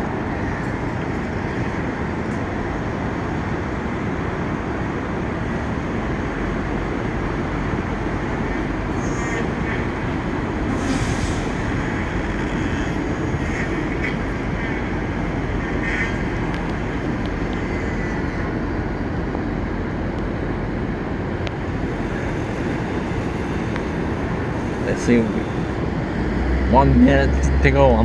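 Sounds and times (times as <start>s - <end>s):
low rumble of city traffic: 0.0s - 28.0s.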